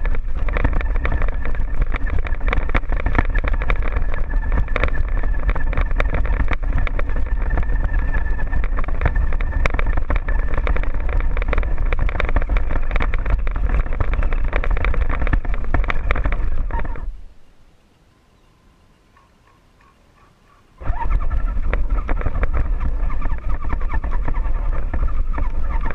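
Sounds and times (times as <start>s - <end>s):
stones rattling under wheels: 0.0s - 17.3s, 20.8s - 25.9s
toy buggy drivetrain whine: 0.0s - 17.4s, 20.8s - 25.9s.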